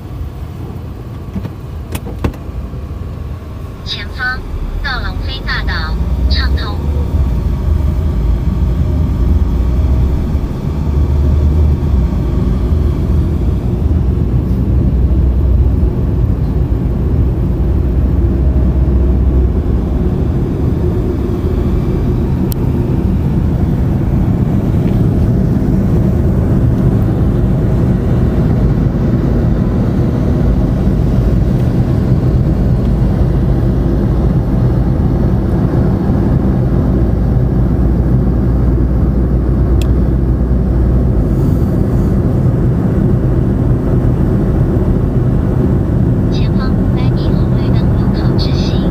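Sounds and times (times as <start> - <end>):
car road noise rumble: 0.0 - 48.9.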